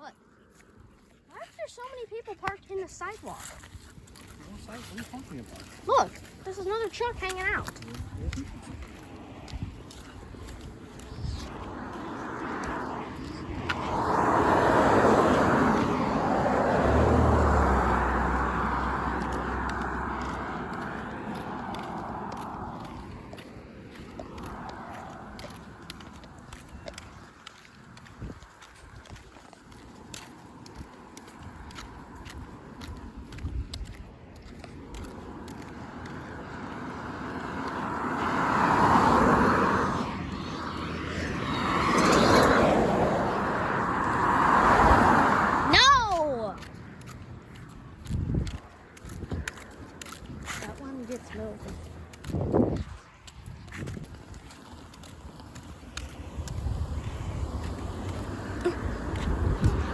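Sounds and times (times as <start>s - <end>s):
vehicle passing close by: 4.1s - 59.9s.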